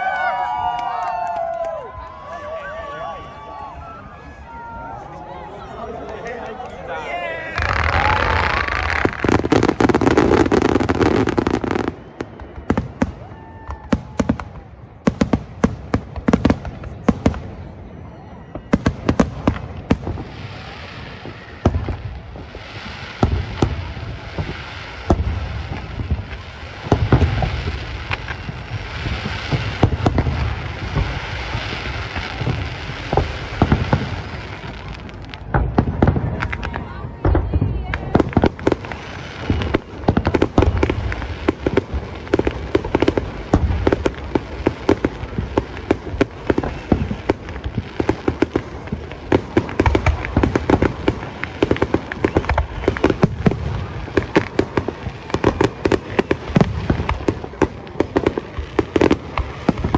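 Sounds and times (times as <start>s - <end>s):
steady crackling hiss: 0.0s - 17.9s, 18.8s - 59.9s
fireworks bangs and crackles: 0.0s - 59.9s.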